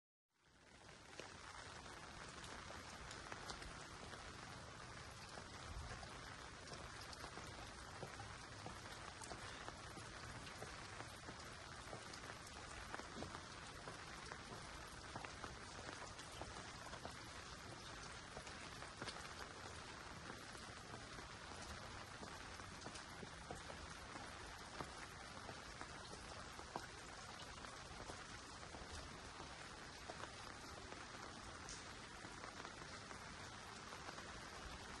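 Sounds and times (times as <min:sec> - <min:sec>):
light rain patter: 0:00.3 - 0:35.0.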